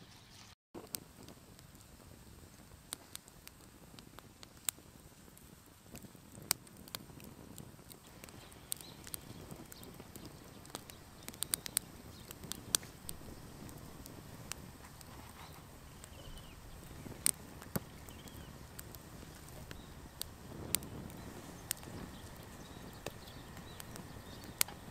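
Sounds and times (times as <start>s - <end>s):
low hiss: 0.0s - 24.9s
wood fire crackling: 0.1s - 24.9s.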